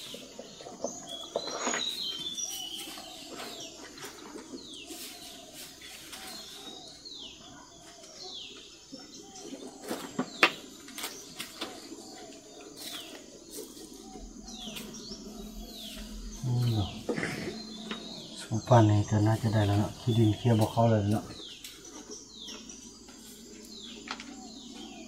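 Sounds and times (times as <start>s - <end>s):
soft low bird calls: 0.0s - 25.0s.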